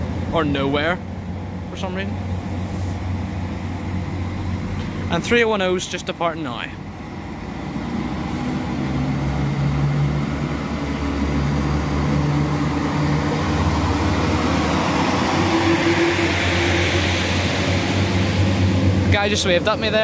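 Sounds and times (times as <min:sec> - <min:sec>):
diesel train engines humming: 0:00.0 - 0:20.0.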